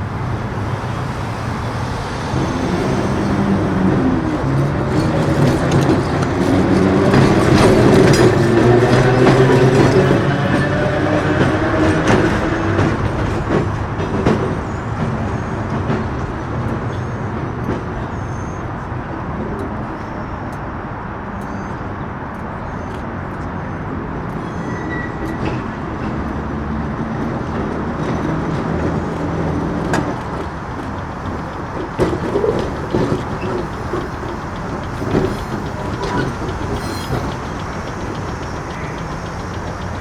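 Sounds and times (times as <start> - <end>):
rail clicks: 0.0 - 40.0
streetcar rumbling on rails: 0.0 - 40.0.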